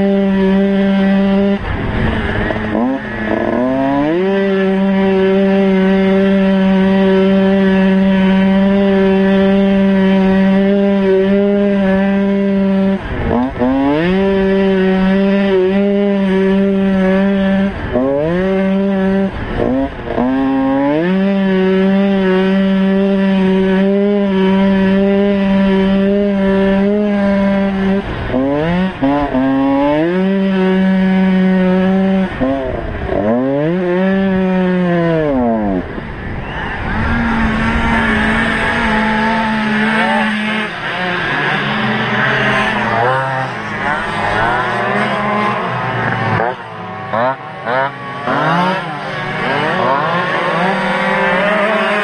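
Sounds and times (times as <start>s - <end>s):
motocross bike engine revving: 0.0s - 52.0s
rough noisy sound: 0.0s - 52.0s.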